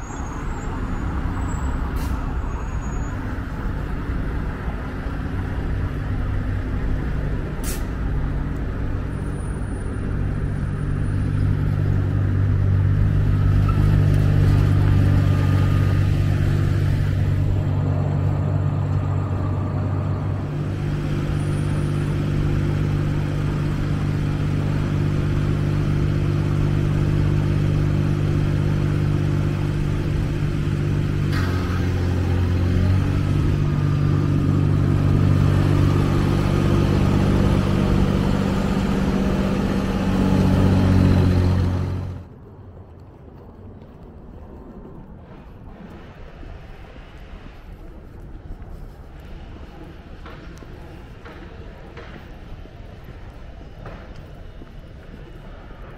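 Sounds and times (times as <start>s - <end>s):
passing traffic: 0.0s - 55.9s.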